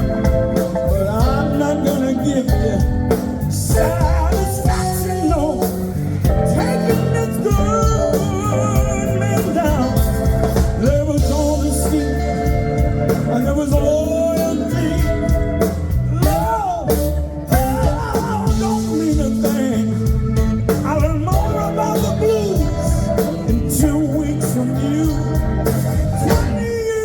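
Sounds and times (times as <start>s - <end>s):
blues band playing: 0.0s - 27.0s
organ: 0.0s - 27.0s.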